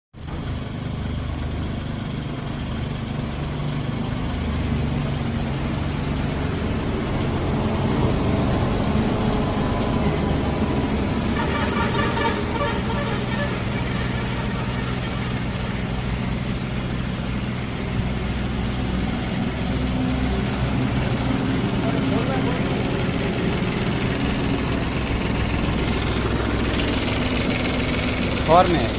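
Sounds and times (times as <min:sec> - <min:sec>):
tractor diesel engine running: 0:00.2 - 0:28.9.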